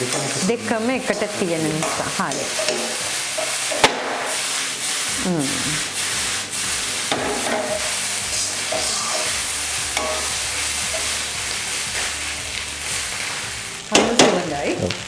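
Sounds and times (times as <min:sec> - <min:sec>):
fried rice sizzling in a pan: 0:00.0 - 0:15.0.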